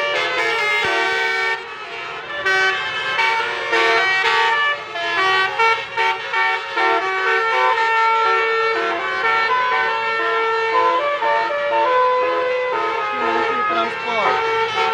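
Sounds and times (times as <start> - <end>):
multi-tone musical bus horn: 0.0 - 14.9.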